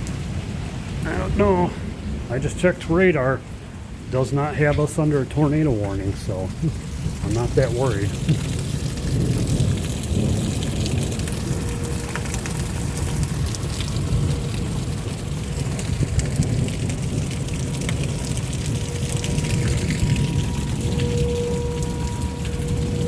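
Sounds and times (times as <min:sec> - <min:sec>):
rain drops ticking: 0:00.0 - 0:23.0
wind rumble on microphone: 0:00.0 - 0:23.0.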